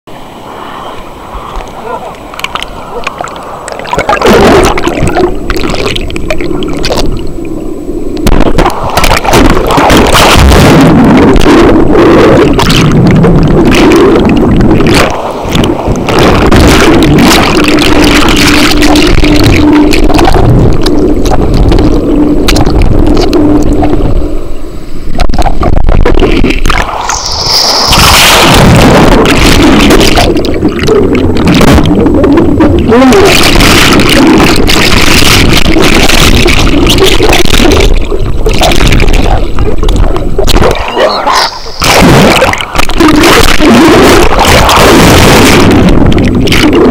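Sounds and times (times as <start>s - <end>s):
turbulent water gurgling underwater: 1.3s - 46.9s.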